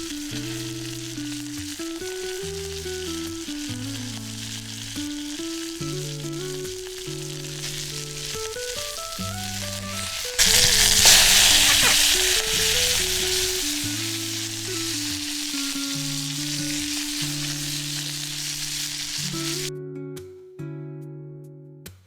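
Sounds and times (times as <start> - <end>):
meat sizzling in a pan: 0.0 - 19.7
guitar music: 0.0 - 21.8.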